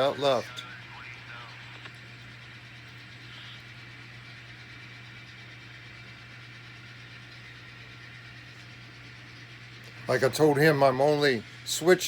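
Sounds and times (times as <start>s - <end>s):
constant low hum: 0.0s - 12.0s
model locomotive whine: 0.0s - 12.0s.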